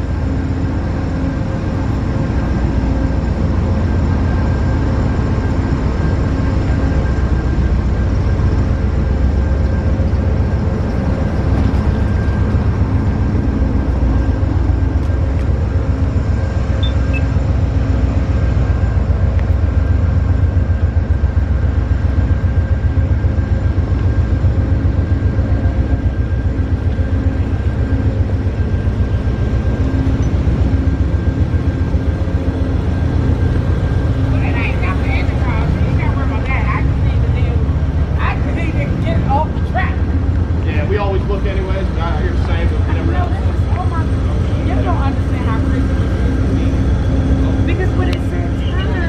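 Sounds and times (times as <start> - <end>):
constant hum: 0.0 - 49.0
diesel locomotive idling: 0.0 - 49.0.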